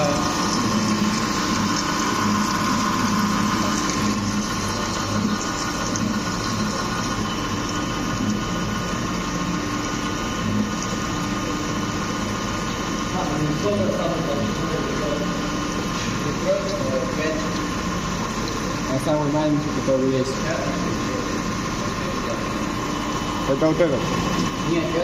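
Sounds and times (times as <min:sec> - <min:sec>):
drilling machine humming: 0:00.0 - 0:25.0.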